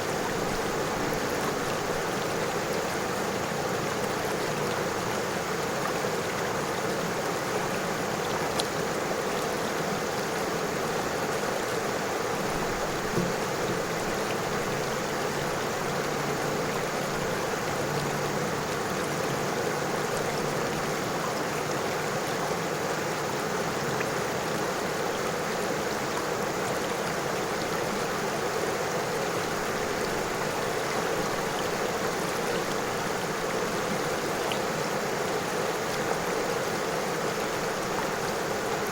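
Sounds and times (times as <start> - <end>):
river water over stones: 0.0 - 38.9.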